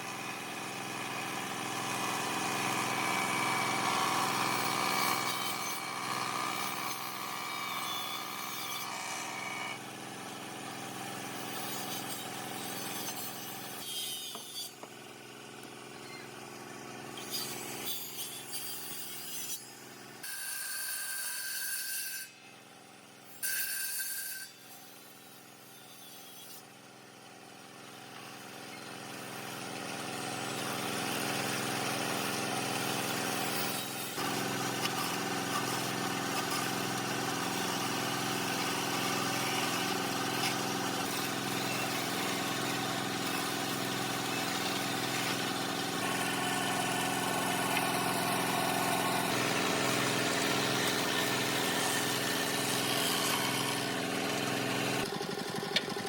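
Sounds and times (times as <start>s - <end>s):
power tool motor cutting wood: 0.0s - 22.2s, 28.7s - 56.0s.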